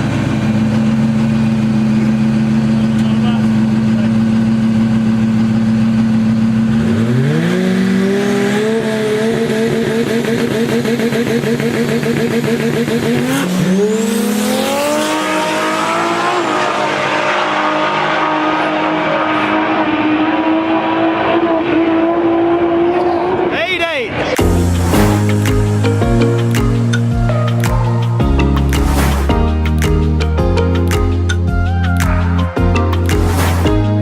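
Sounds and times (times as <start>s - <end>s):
turbocharged engine revving: 0.0s - 29.6s.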